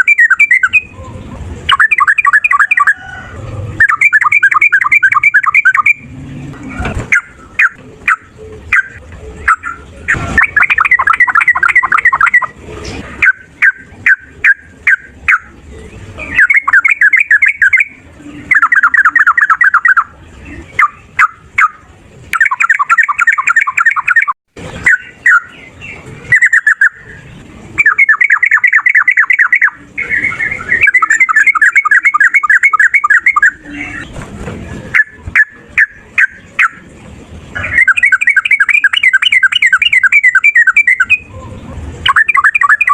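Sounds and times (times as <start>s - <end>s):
bulbul singing: 0.0s - 6.1s, 7.0s - 12.6s, 13.2s - 34.2s, 34.9s - 42.9s.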